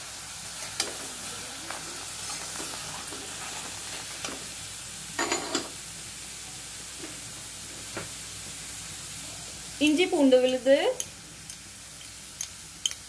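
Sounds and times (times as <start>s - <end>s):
onions and tomatoes sizzling: 0.0s - 13.0s.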